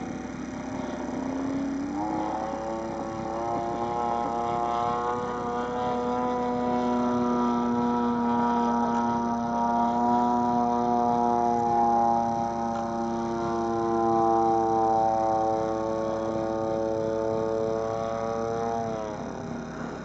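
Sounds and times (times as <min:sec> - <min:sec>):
model airplane engine droning: 0:00.0 - 0:20.0.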